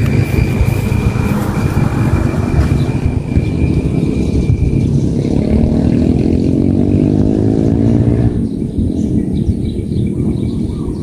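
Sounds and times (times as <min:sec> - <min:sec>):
low rumble: 0:00.0 - 0:11.0
vehicle engine passing: 0:00.0 - 0:11.0.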